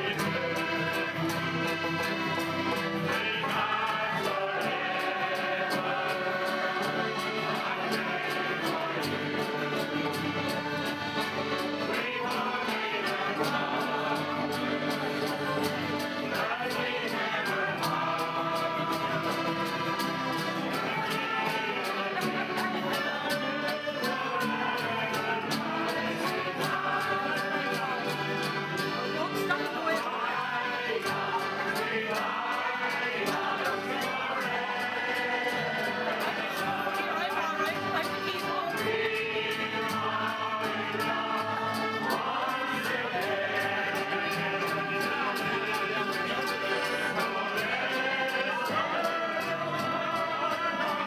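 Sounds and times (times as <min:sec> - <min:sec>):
accordion: 0:00.0 - 0:51.0
acoustic guitars strummed: 0:00.0 - 0:51.0
people singing along: 0:00.0 - 0:51.0.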